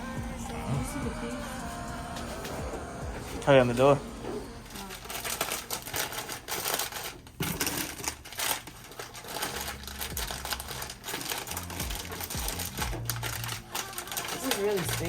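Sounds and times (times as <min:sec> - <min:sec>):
rapid clicking and rattling: 0:02.0 - 0:15.0.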